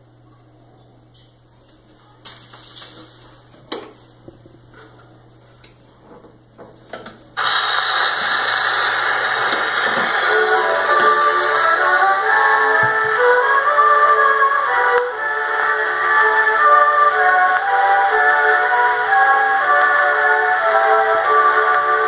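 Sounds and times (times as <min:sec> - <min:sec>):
record surface hiss: 0:00.0 - 0:22.0.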